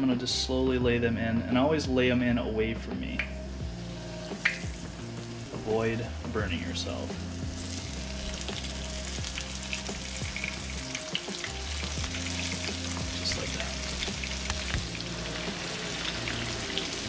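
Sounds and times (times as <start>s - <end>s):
fish frying in oil: 3.2s - 17.0s.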